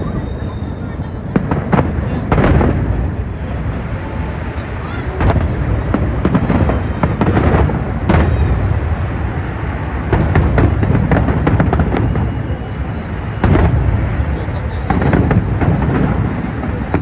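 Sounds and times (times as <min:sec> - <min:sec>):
distant fireworks rumble: 0:00.0 - 0:17.0
fireworks sharp bangs: 0:00.0 - 0:17.0.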